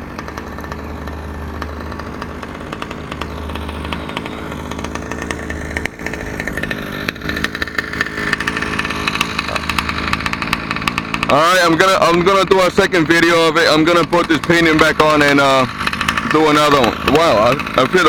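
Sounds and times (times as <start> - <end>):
small two-stroke engine running: 0.0 - 18.0.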